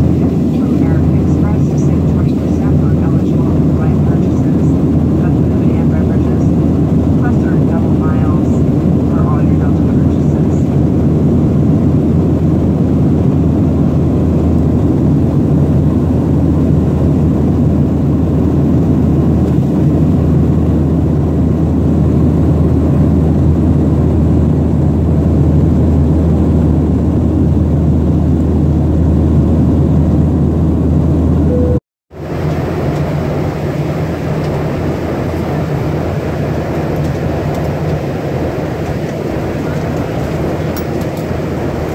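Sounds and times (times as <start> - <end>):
jet cabin engine and airflow noise: 0.0 - 41.9.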